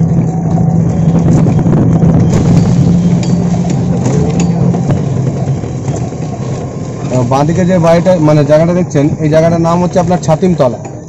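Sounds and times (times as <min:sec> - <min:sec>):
electric vehicle hum: 0:00.0 - 0:11.0.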